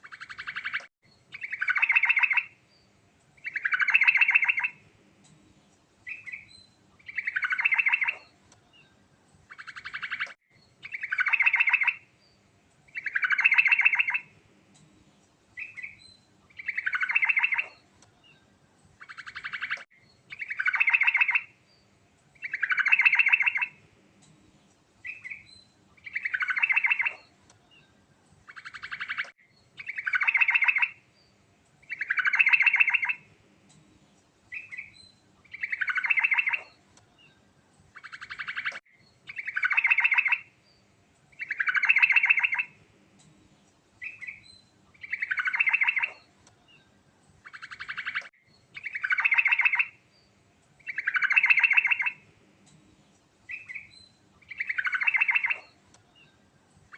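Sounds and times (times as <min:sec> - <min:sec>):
bird singing trilled song: 0:00.0 - 0:04.9, 0:05.5 - 0:56.9.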